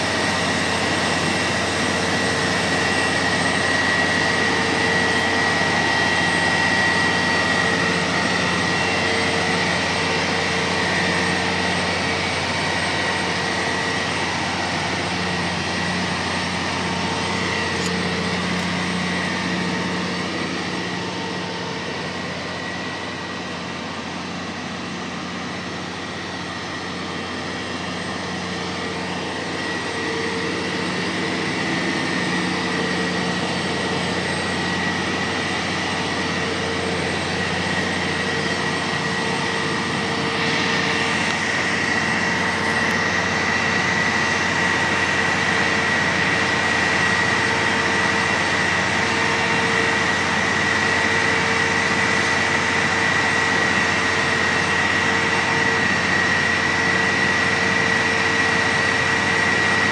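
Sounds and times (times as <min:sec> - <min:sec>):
low hum: 0:00.0 - 0:52.1
crane machinery din: 0:00.0 - 0:59.9
steady high whine: 0:00.0 - 0:59.9.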